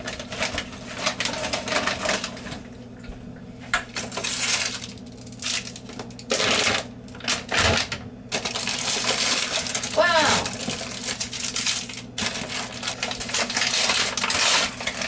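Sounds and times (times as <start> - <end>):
wrappers crinkling: 0.0 - 2.6, 4.0 - 15.0.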